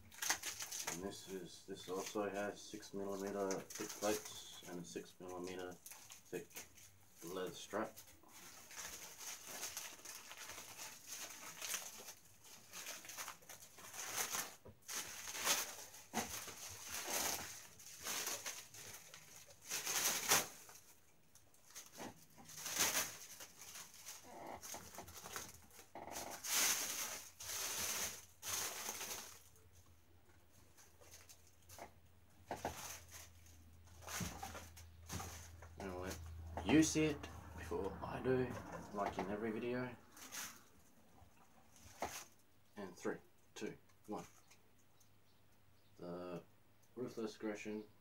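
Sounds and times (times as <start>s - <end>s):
plastic wrapping crinkling: 0.0s - 37.6s, 38.5s - 42.4s.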